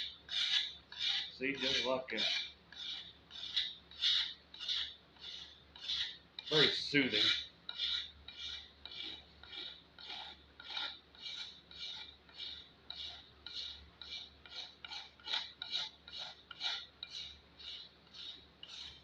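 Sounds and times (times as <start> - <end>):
knife blade scraping wood: 0.0 - 19.0.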